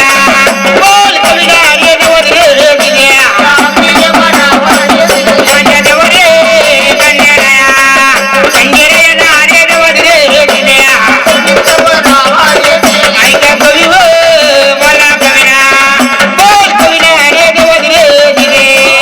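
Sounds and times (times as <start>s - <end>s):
hand drum rhythm: 0.0s - 19.0s
person singing: 0.0s - 19.0s.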